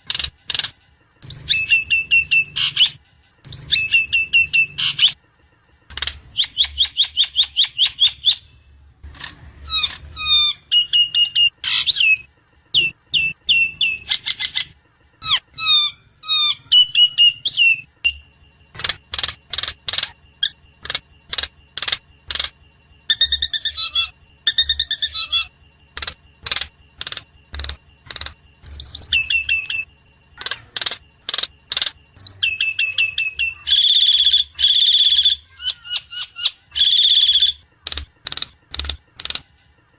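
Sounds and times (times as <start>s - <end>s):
myna bird song: 0.0s - 39.9s.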